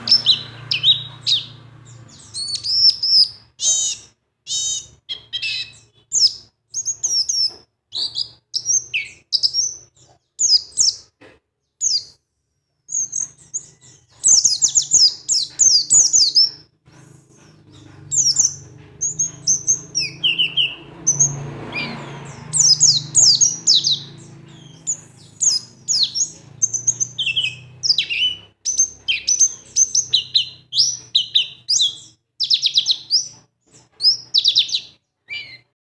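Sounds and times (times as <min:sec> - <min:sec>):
birds chirping: 0:00.0 - 0:35.8.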